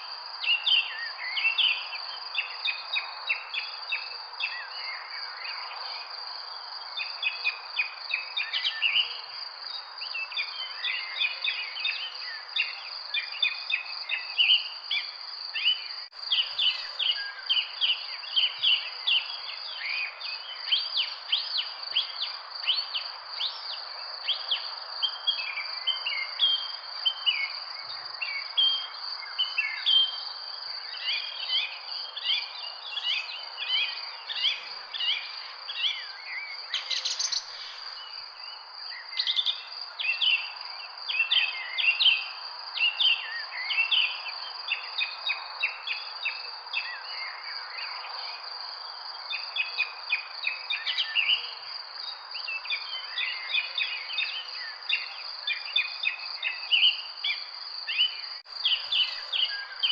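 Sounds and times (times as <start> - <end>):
small birds chirping: 6.9 - 48.2, 52.1 - 59.9.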